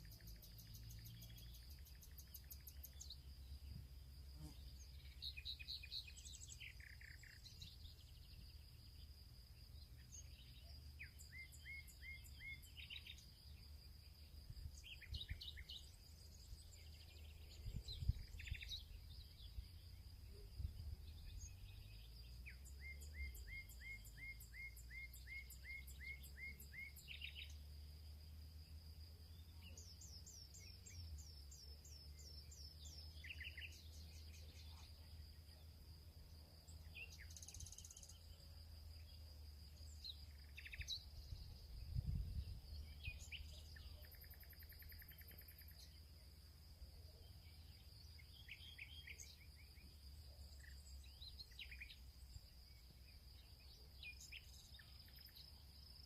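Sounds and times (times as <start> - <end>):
birds singing and chirping: 0.0 - 3.5, 4.4 - 8.8, 9.8 - 27.7, 29.3 - 46.1, 47.2 - 56.0
high insect drone: 0.0 - 56.0.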